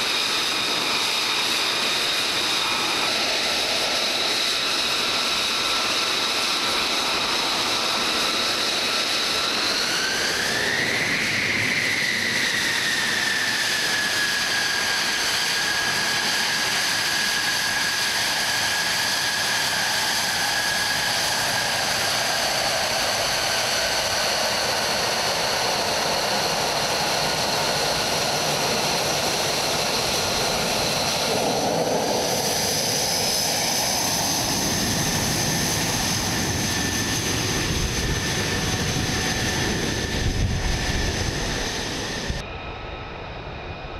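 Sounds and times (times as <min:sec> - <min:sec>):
jet exhaust rush: 0:00.0 - 0:43.9
jet turbine whine: 0:00.0 - 0:43.9.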